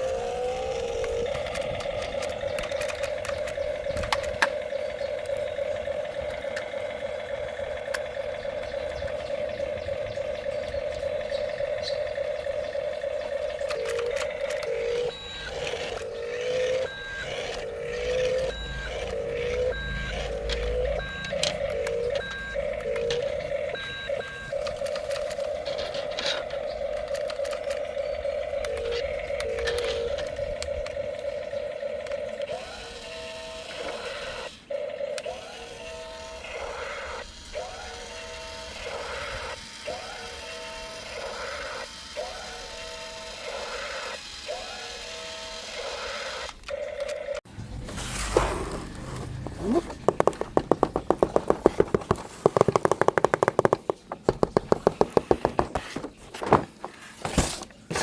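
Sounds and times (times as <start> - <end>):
toy beeping notes: 0.0 - 46.5, 49.2 - 55.5.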